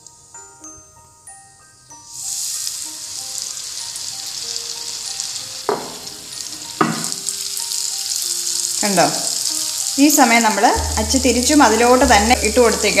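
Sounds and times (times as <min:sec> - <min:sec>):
batter sizzling in hot oil: 0:01.7 - 0:13.0.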